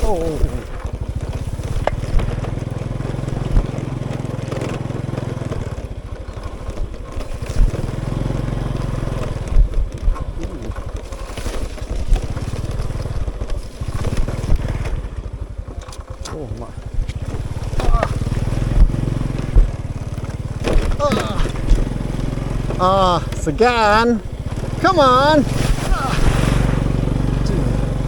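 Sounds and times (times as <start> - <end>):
bike jolting knocks: 0.0 - 26.9
dirt bike engine: 0.0 - 28.0.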